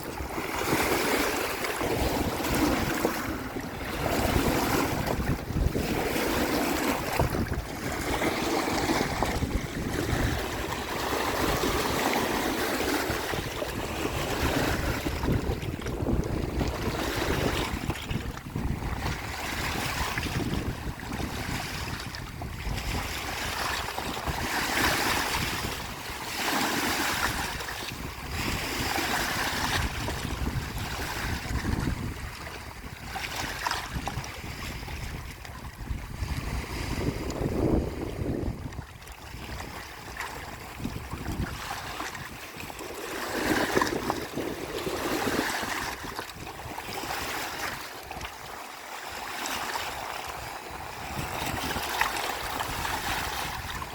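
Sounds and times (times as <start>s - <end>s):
wind rumbling on microphone: 0.0s - 48.6s, 49.6s - 53.9s
lake waves washing on shore: 0.0s - 53.9s.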